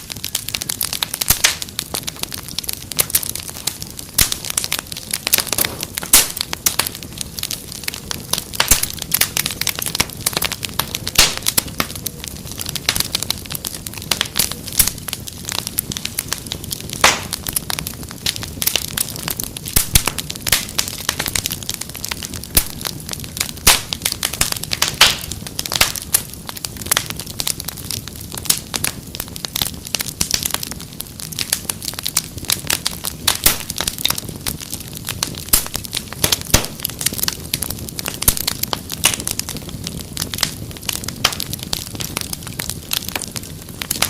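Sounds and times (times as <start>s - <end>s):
low rumble of burning: 0.0s - 44.0s
wood fire crackling: 0.0s - 44.0s.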